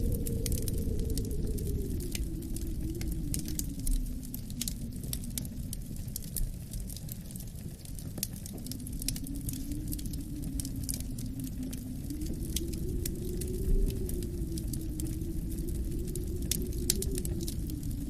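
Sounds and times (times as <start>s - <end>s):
wind howling: 0.0s - 18.0s
wood fire crackling and popping: 0.0s - 18.0s.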